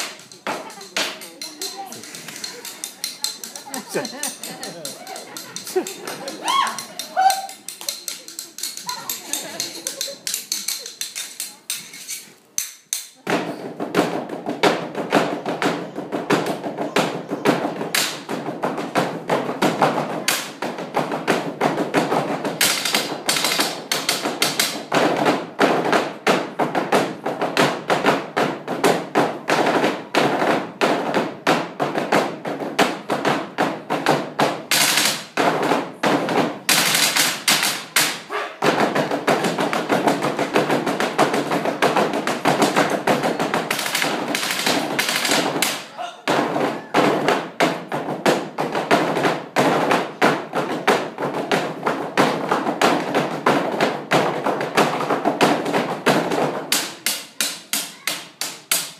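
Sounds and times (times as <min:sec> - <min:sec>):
percussion beating on tabletop: 0:00.0 - 0:58.9.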